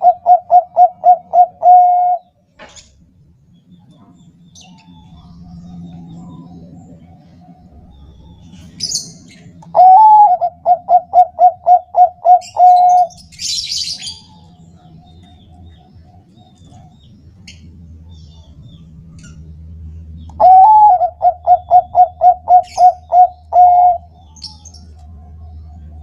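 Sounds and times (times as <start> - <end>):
dove cooing song: 0.0 - 2.4, 4.0 - 19.4, 20.2 - 26.0.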